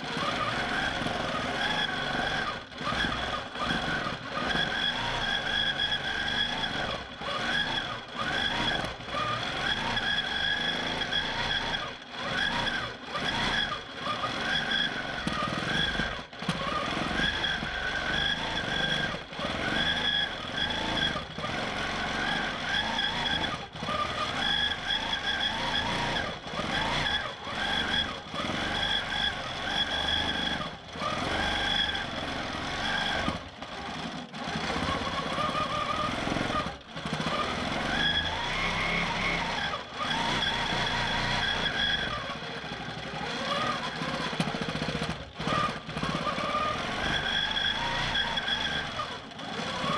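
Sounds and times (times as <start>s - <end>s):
quilting machine whine: 0.0s - 49.9s.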